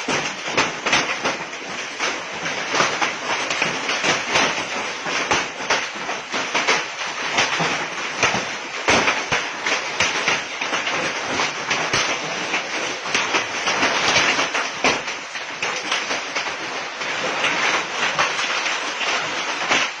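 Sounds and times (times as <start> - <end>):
hailstones clattering on hard surface: 0.0 - 20.0.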